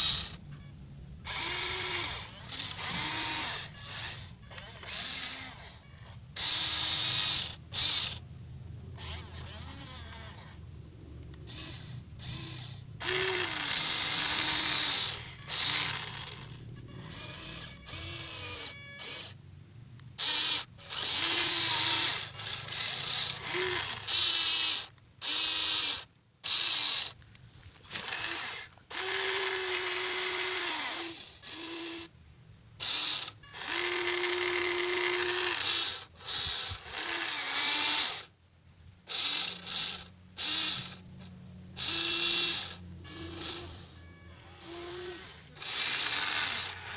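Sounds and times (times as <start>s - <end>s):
toy excavator motors whining: 0.0s - 19.4s, 20.0s - 32.2s, 32.8s - 38.4s, 39.0s - 46.9s.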